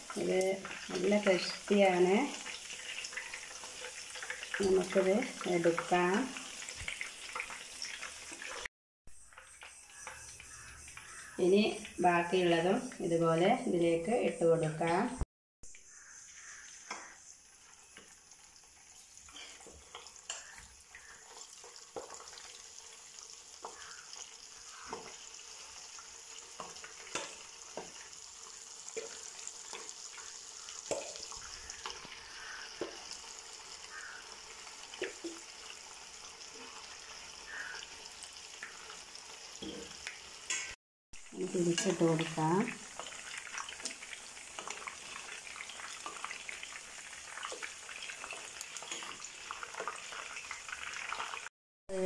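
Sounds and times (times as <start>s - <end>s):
chicken deep-frying in oil: 0.0s - 52.0s.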